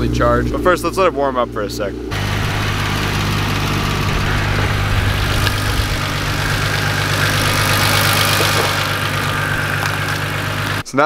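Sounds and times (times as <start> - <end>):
car engine idling: 1.8 - 10.9.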